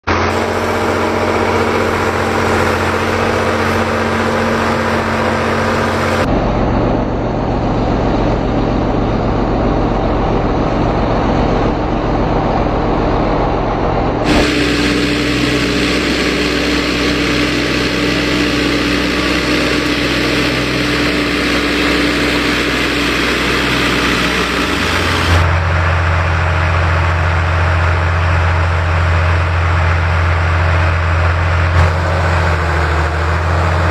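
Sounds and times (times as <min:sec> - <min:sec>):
low steady engine note: 0:00.0 - 0:33.9
tractor diesel engines running: 0:00.0 - 0:33.9.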